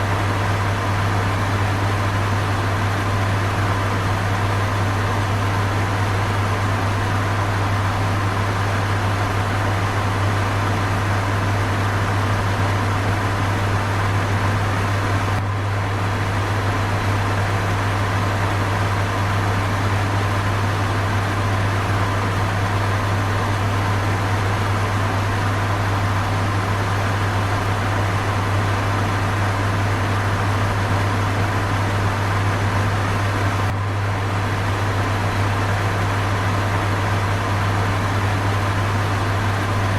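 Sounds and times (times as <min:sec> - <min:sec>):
fan running with low hum: 0:00.0 - 0:39.9.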